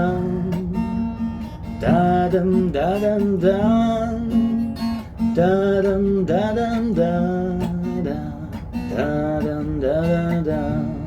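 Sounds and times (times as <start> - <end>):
person singing wordless melody: 0.0 - 1.0, 1.8 - 11.0
strummed acoustic guitar: 0.0 - 11.0.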